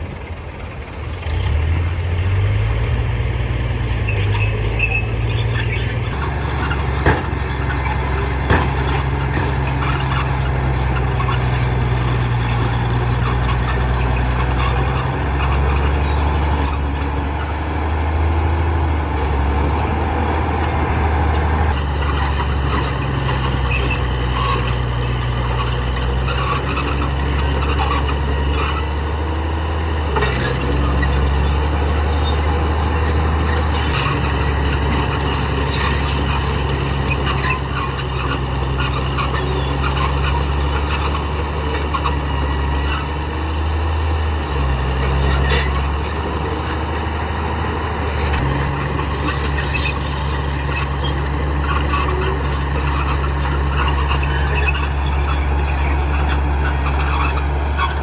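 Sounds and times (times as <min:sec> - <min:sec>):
heavy diesel engine running: 0:00.0 - 0:58.0
high mechanical squeal: 0:03.8 - 0:58.0.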